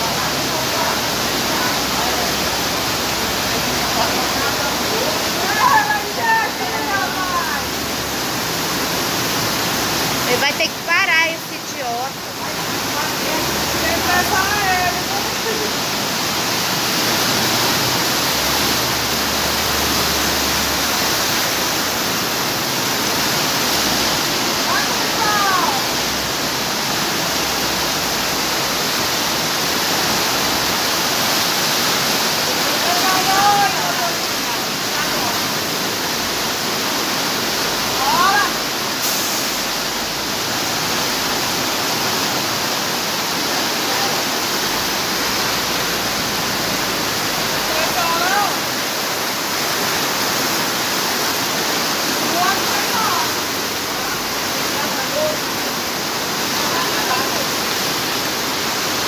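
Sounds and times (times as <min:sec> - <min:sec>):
heavy downpour: 0:00.0 - 0:59.0
heavy rain pouring: 0:00.0 - 0:59.0
rushing floodwater: 0:00.0 - 0:59.0.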